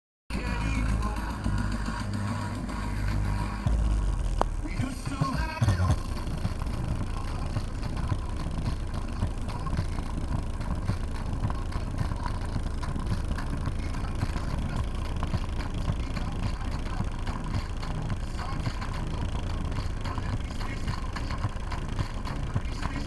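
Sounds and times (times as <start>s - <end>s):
subwoofers playing deep bass: 0.3s - 23.0s.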